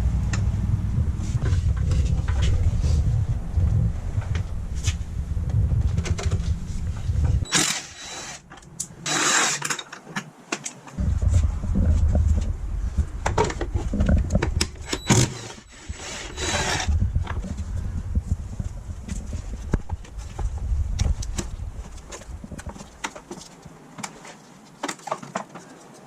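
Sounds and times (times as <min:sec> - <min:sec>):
low rumble: 0:00.0 - 0:08.8, 0:11.0 - 0:23.1.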